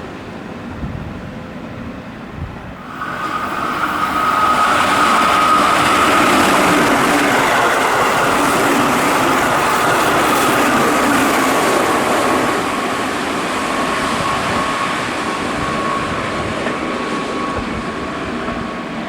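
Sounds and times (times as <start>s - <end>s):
rail and wheel noise: 0.0s - 19.0s
train high whine: 0.0s - 19.0s
train rumble: 0.0s - 19.0s.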